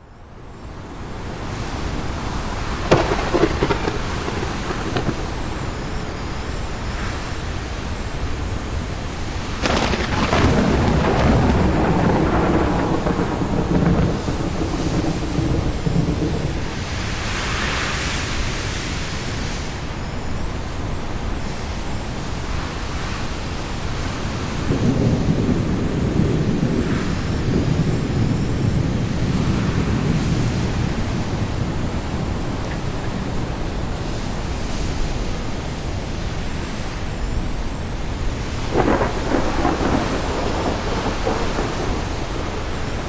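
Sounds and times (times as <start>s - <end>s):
wind blowing in gusts: 0.0s - 43.0s.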